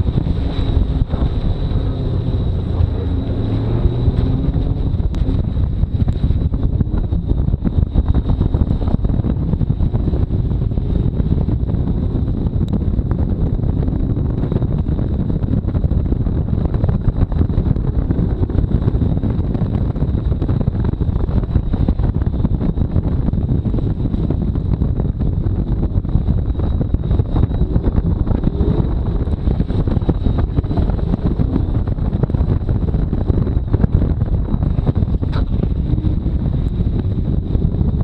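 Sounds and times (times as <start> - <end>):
car engine under throttle: 0.0 - 38.0
road noise: 0.0 - 38.0
wind buffeting microphone: 0.0 - 38.0.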